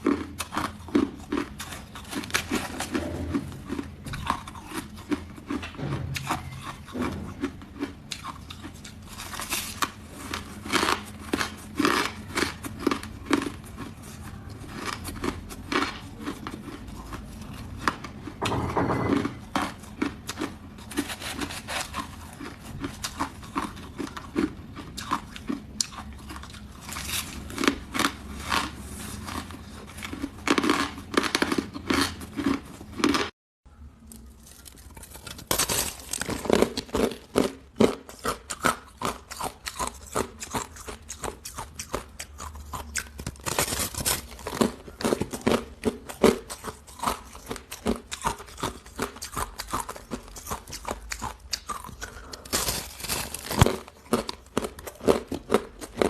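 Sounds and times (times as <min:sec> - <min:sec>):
ice being chewed: 0:00.0 - 0:33.3, 0:34.0 - 0:56.0.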